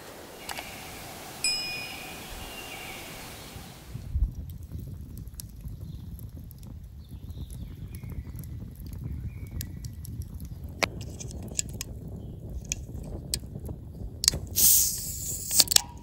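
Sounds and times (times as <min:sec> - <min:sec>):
campfire crackling: 0:00.0 - 0:16.0
low steady fire rush: 0:00.0 - 0:16.0.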